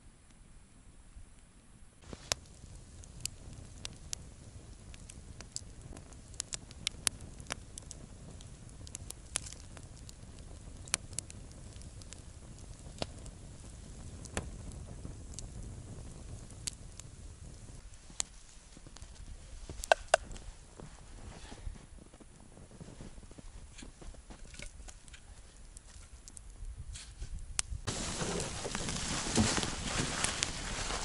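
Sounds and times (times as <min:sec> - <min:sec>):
campfire crackling and popping: 0:02.0 - 0:31.0.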